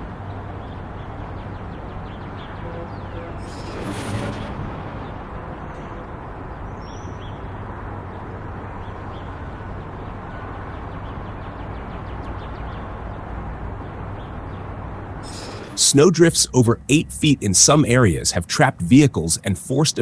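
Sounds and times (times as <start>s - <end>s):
outdoor noise: 0.0s - 20.0s.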